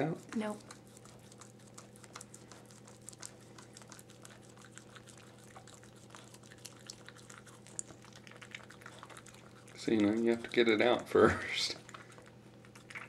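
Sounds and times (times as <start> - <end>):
low steady hum: 0.0 - 13.0
puppies nursing wet clicks: 0.0 - 13.0.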